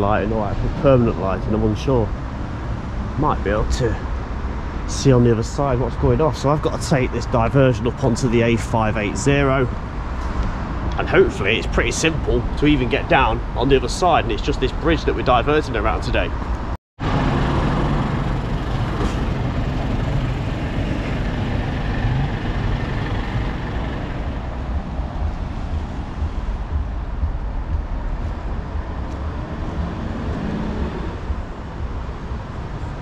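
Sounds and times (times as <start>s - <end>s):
heavy road traffic rumble: 0.0s - 33.0s.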